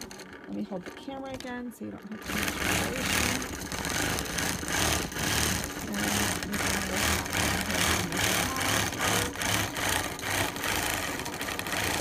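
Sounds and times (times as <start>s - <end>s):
quilting machine whirring: 0.0s - 12.0s.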